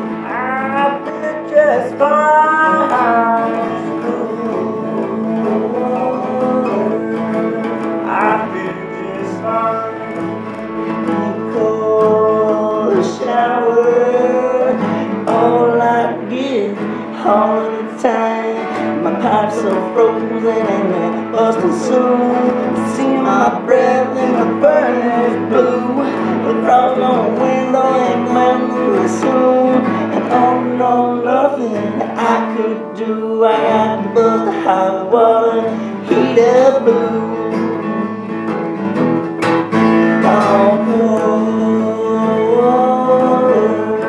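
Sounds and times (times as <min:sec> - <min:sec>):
blues guitar accompaniment: 0:00.0 - 0:44.0
sliding melody line: 0:00.0 - 0:44.0.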